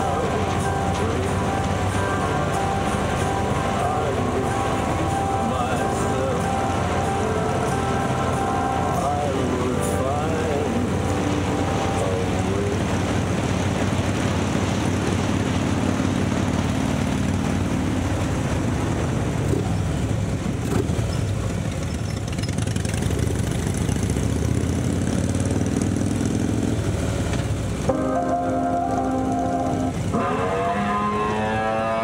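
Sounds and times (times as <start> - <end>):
rushing noise: 0.0 - 21.6, 24.8 - 32.0
vehicle engine droning: 0.0 - 32.0.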